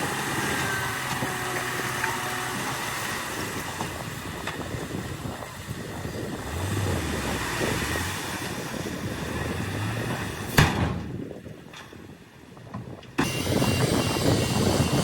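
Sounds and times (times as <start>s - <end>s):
bulldozer diesel engine: 0.0s - 11.8s, 13.1s - 15.0s.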